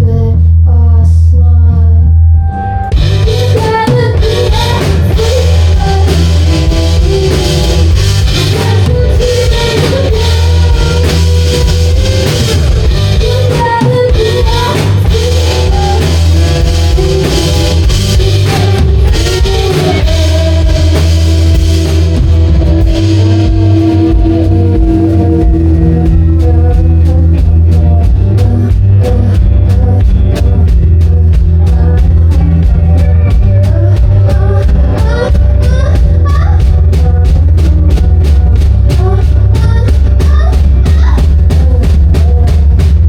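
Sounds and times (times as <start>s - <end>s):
guitar holding long notes: 2.3s - 36.9s
rock band playing live: 2.8s - 43.0s
drum kit hitting steadily: 2.9s - 43.0s.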